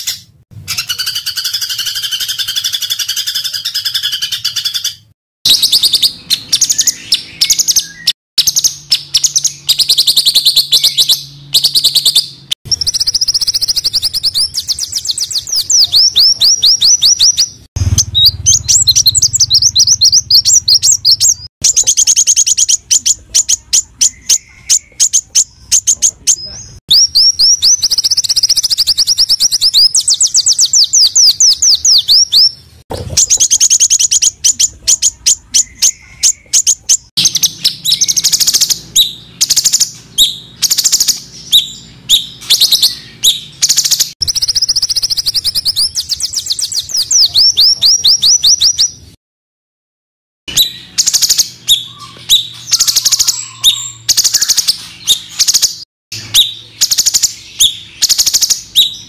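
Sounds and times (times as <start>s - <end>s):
songbirds chirping rapidly: 0.0s - 49.2s, 50.5s - 59.0s.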